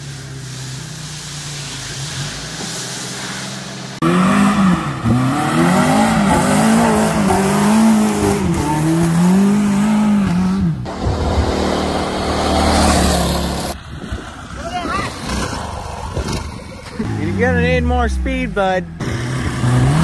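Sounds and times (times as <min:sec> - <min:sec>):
car engine revving: 0:00.0 - 0:13.8, 0:14.5 - 0:20.0.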